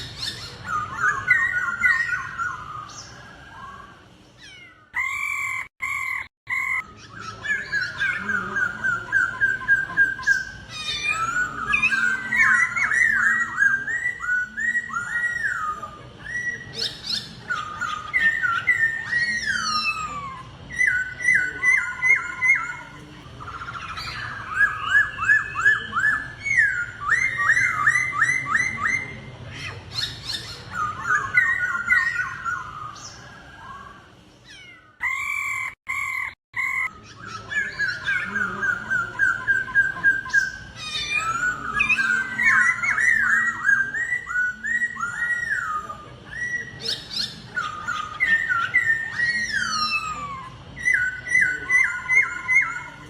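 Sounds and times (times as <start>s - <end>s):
laughingthrush singing: 0.0s - 53.0s.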